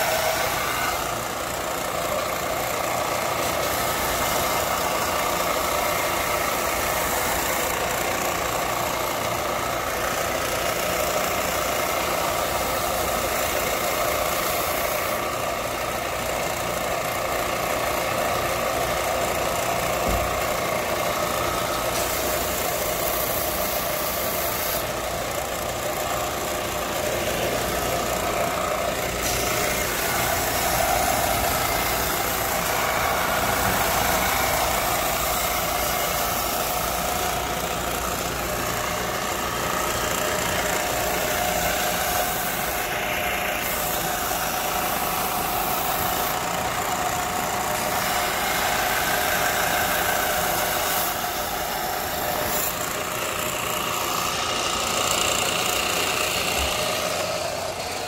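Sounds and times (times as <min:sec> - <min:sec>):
motor running steadily: 0:00.0 - 0:58.0.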